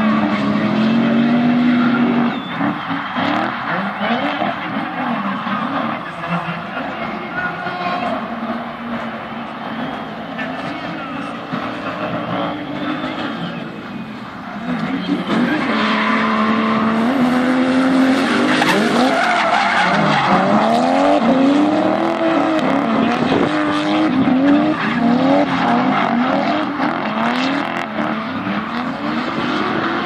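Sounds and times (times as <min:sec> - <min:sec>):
drift car engines revving: 0:00.0 - 0:30.0.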